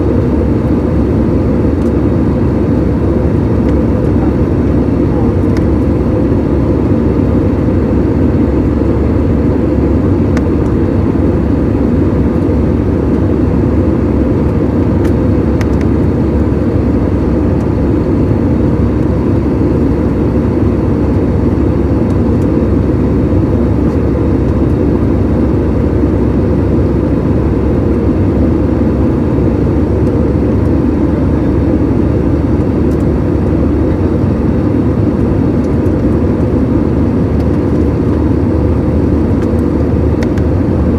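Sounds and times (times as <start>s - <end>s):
airliner engines drone: 0.0s - 40.9s.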